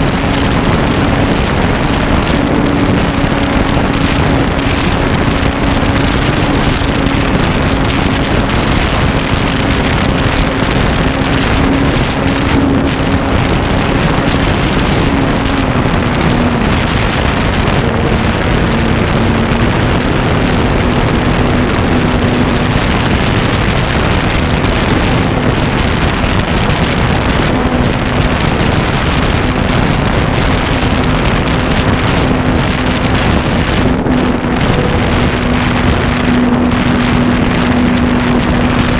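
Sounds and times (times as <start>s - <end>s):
wind rush over microphone: 0.0s - 38.9s.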